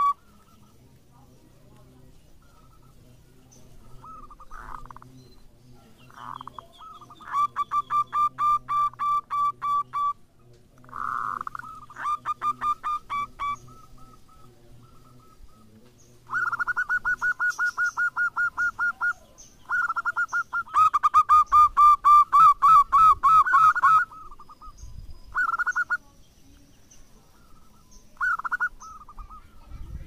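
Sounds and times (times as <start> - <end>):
dove rapid cooing: 2.4 - 5.2, 5.8 - 10.2, 10.8 - 26.0, 27.3 - 30.0.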